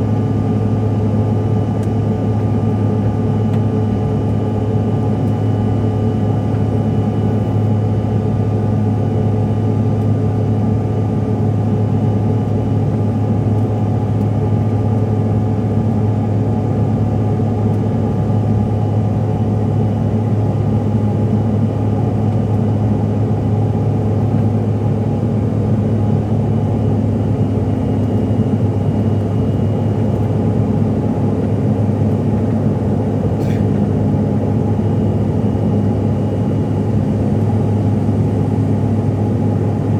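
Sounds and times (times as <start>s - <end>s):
jet cabin engine hum: 0.0s - 39.9s.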